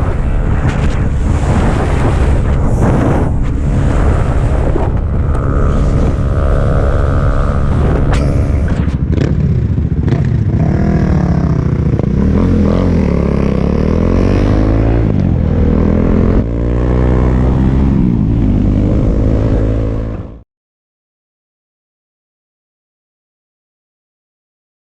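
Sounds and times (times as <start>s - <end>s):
motorcycle engine revving: 0.0s - 20.4s
wind noise: 0.0s - 20.4s.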